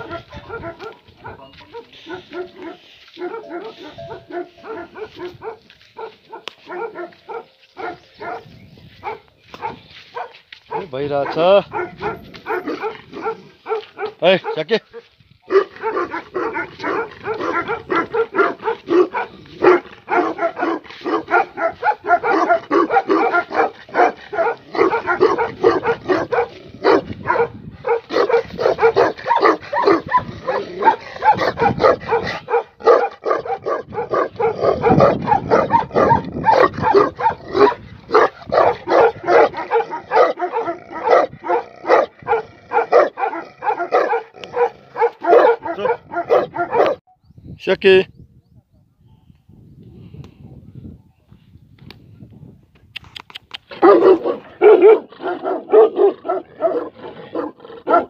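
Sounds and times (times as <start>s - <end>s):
dog barking: 0.0s - 47.0s, 53.7s - 58.0s.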